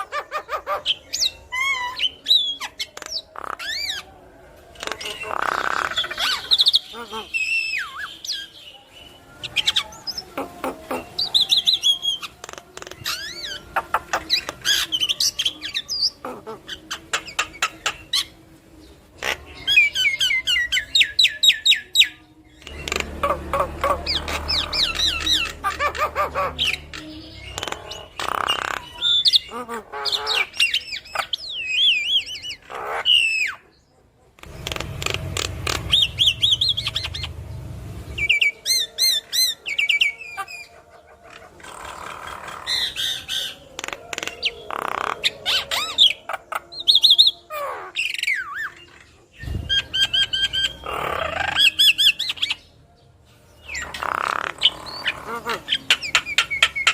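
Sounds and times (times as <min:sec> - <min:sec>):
myna bird singing: 0:00.0 - 0:56.9.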